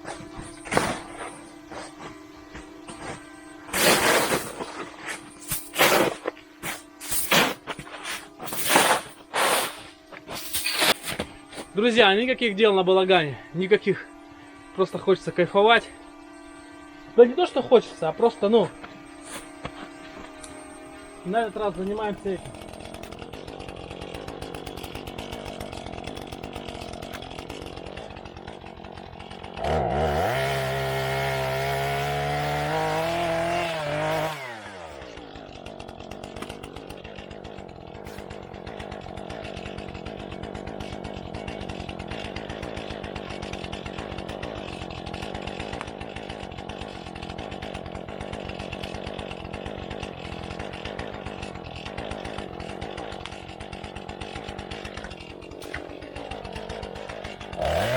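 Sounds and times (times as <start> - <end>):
chainsaw idling and revving: 0.0 - 57.9.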